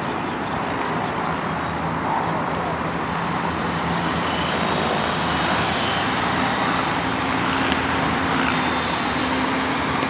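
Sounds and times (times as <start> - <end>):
rotor blades rushing: 0.7 - 10.0
motor and gear whine: 1.0 - 10.0.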